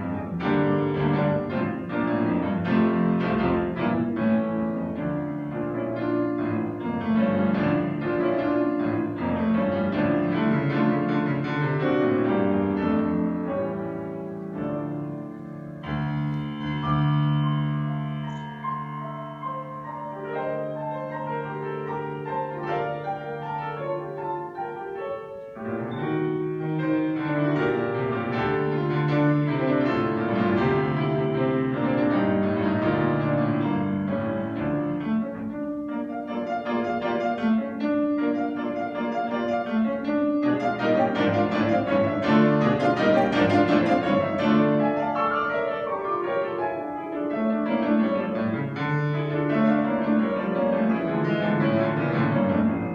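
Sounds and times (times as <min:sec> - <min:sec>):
solo classical piano: 0:00.0 - 0:52.9.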